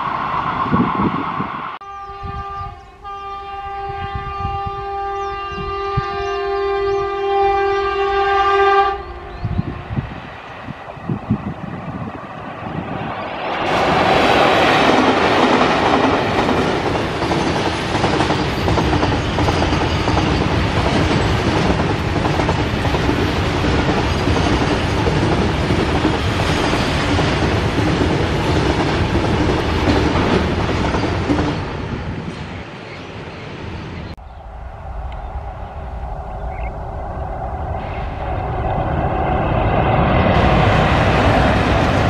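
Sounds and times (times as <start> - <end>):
locomotive rush: 0.0 - 1.8, 9.0 - 42.0.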